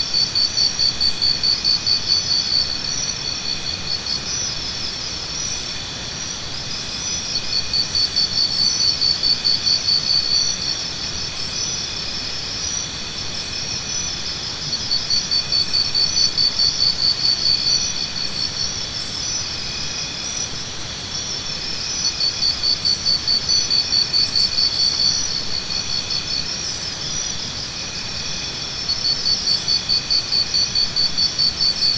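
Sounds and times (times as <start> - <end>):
insects trilling: 0.0 - 31.9
pulsing insect chirp: 0.0 - 31.9.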